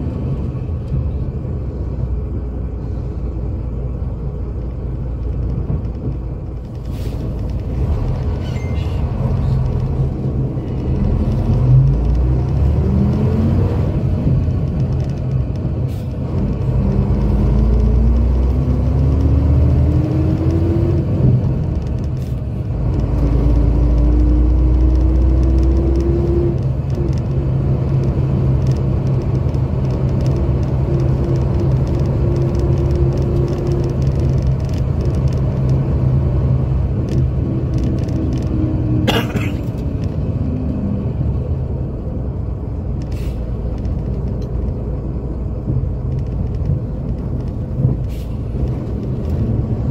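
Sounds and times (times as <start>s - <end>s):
diesel coach engine accelerating: 0.0s - 49.9s.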